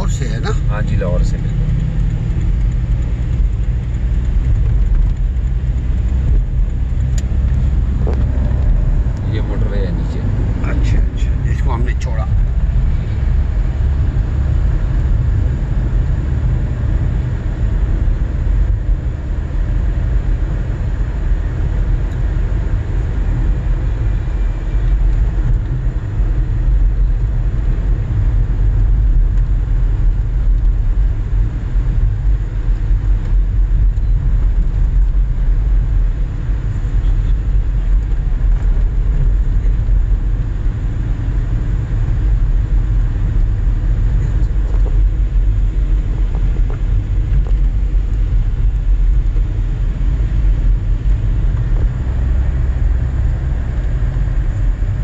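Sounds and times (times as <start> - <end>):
car driving from inside cabin: 0.0 - 55.0.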